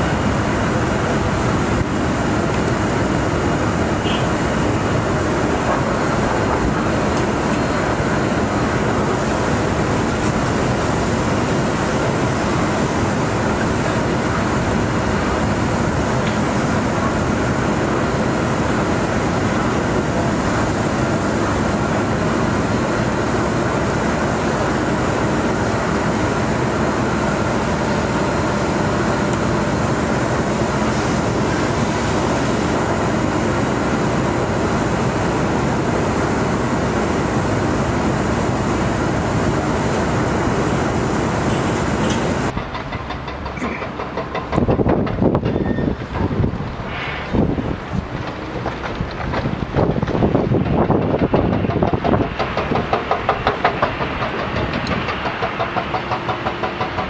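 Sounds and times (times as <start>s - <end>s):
heavy construction machinery rumble: 0.0s - 57.0s.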